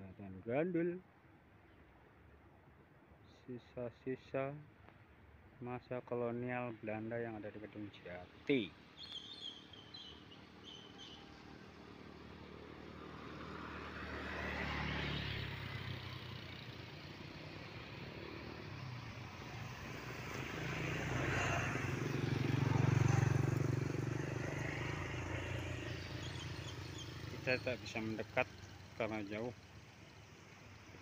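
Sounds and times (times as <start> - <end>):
vehicles passing on a road: 3.9 - 31.0.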